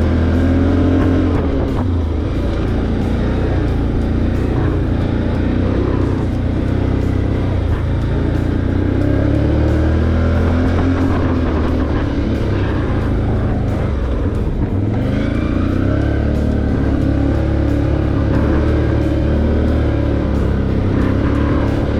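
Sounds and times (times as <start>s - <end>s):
atv engine revving: 0.0s - 21.9s.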